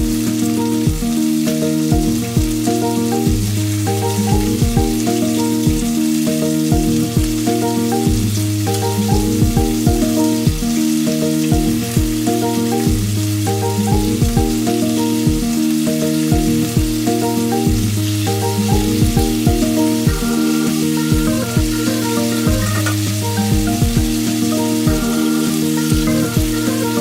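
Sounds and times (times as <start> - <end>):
background music with steady beat: 0.0 - 27.0
food sizzling in a pan: 0.0 - 27.0.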